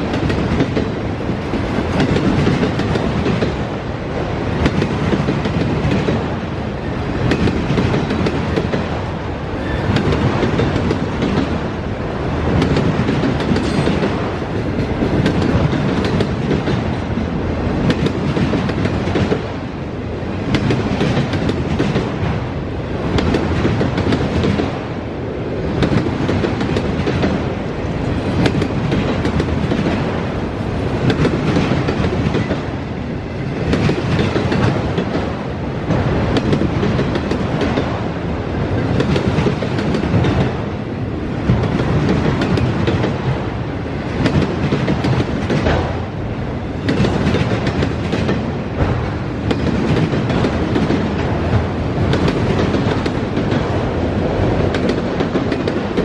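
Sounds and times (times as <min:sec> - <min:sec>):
train wheels clicking: 0:00.0 - 0:11.8, 0:12.4 - 0:19.7, 0:20.4 - 0:24.8, 0:25.6 - 0:40.6, 0:41.4 - 0:56.0
freight train rumbling: 0:00.0 - 0:56.0.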